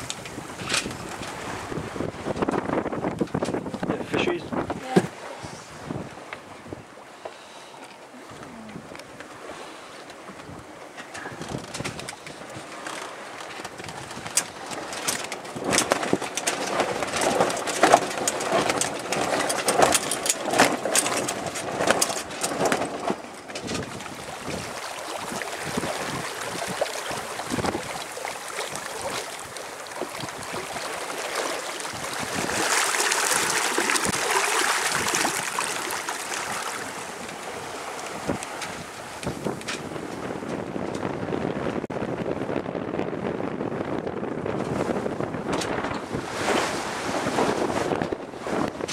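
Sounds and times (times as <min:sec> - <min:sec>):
wind buffeting microphone: 0:00.0 - 0:07.0, 0:10.2 - 0:48.9
water churning along hull: 0:00.0 - 0:48.9.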